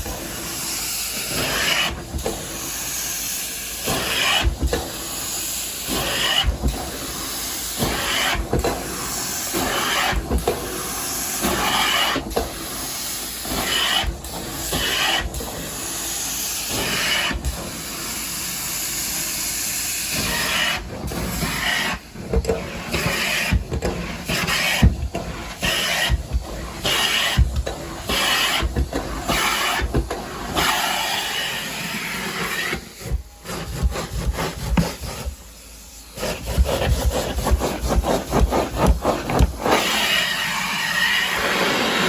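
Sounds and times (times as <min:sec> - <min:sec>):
carpet extraction wand spraying and sucking: 0:00.0 - 0:42.0.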